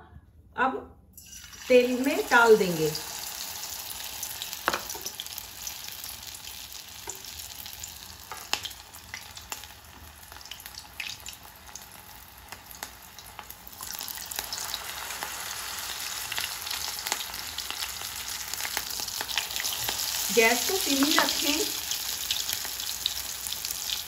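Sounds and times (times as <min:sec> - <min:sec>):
battered food deep-frying in oil: 0:01.2 - 0:24.0
oil crackling and popping: 0:03.0 - 0:24.0.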